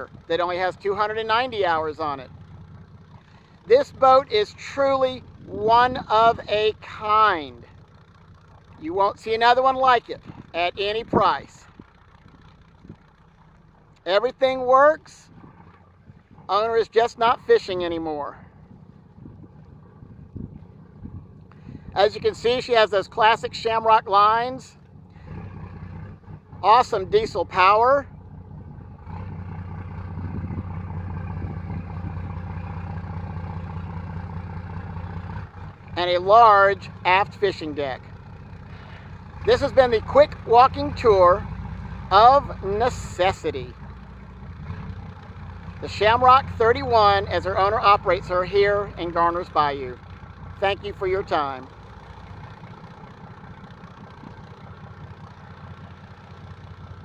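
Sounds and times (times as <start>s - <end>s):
boat diesel engines droning: 0.0s - 57.0s.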